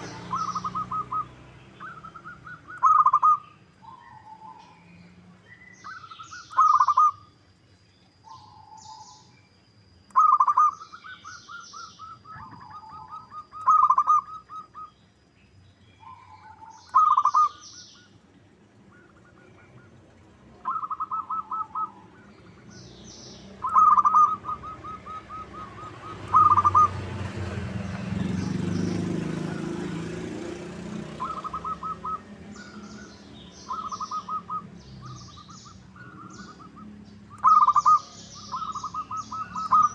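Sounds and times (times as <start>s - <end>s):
doves cooing: 0.0s - 4.8s, 5.8s - 7.3s, 10.1s - 15.0s, 16.0s - 39.9s
small bird chirping: 0.0s - 18.2s, 18.8s - 39.9s.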